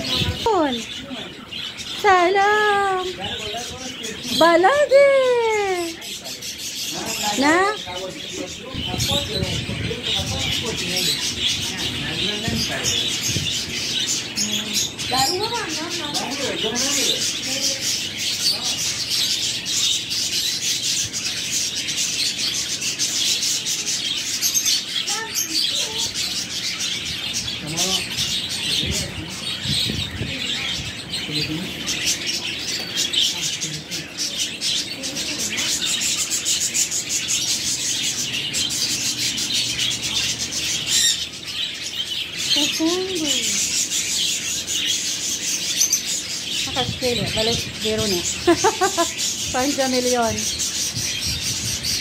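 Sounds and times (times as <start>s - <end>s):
budgerigars chirping: 0.0s - 4.9s, 5.6s - 52.0s.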